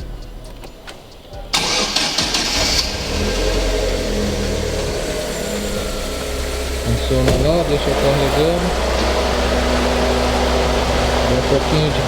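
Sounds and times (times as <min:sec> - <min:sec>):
car engine idling: 0:01.3 - 0:12.0.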